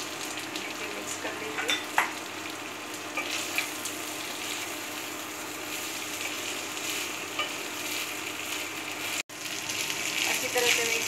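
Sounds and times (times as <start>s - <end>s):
fried rice sizzling in a pan: 0.0s - 11.0s.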